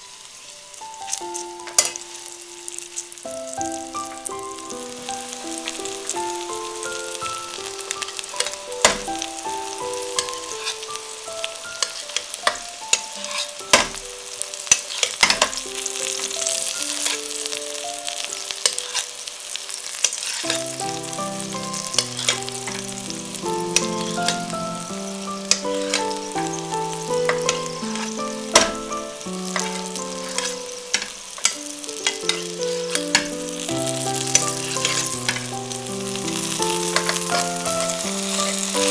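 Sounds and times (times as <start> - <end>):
chicken sizzling in oil: 0.0 - 38.9
gentle background music: 0.0 - 38.9.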